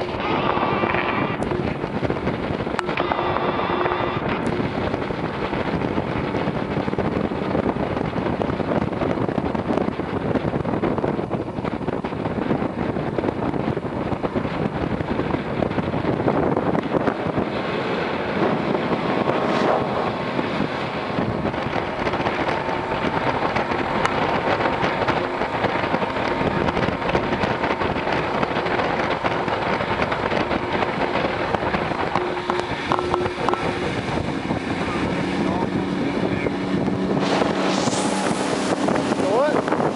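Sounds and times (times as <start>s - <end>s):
motorboat running: 0.0s - 39.9s
wind on microphone: 0.0s - 39.9s.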